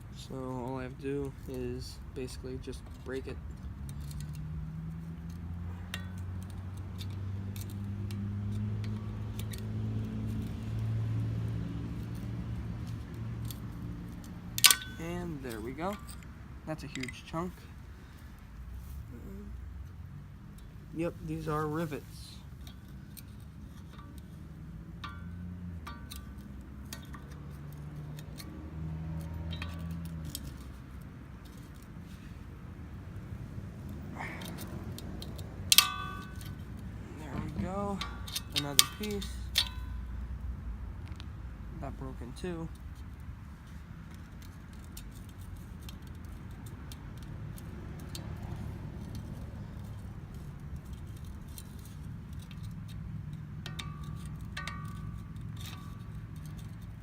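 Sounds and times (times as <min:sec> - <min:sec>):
low steady hum: 0:00.0 - 0:57.0
small clicks and clinks: 0:02.2 - 0:18.4, 0:19.2 - 0:32.4, 0:33.8 - 0:40.2, 0:42.4 - 0:57.0.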